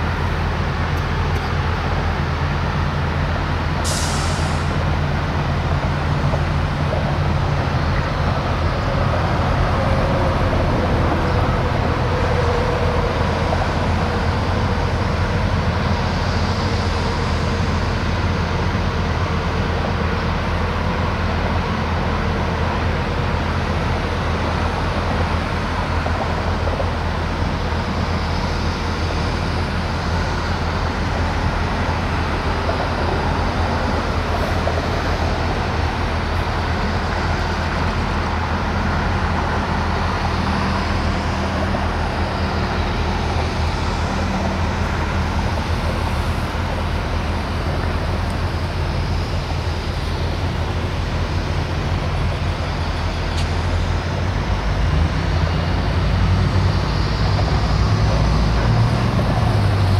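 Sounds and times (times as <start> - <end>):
diesel locomotive idling: 0.0 - 59.9.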